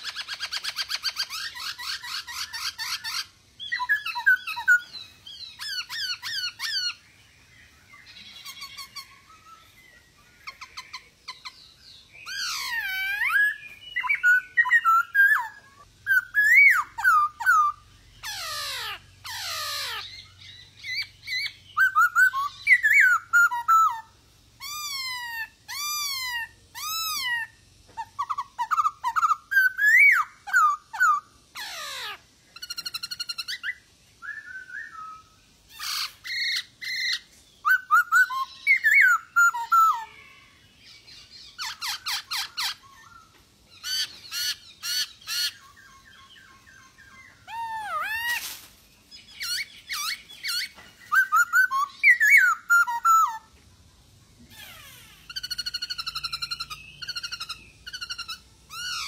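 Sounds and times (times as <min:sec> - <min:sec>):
bird singing whistled phrases: 0:00.0 - 0:40.4, 0:49.1 - 0:53.5, 0:55.3 - 0:59.0
harsh chattering bird calls: 0:00.0 - 0:59.0.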